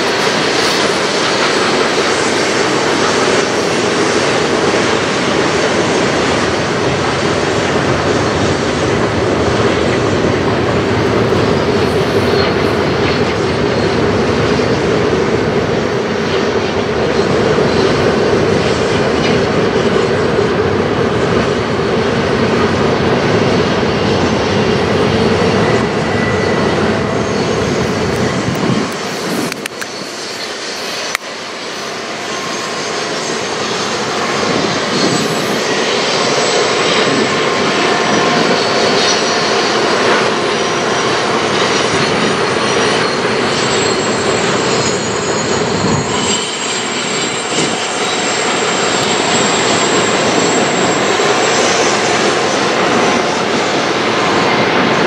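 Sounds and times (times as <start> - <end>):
diesel locomotives droning: 0.0 - 55.0.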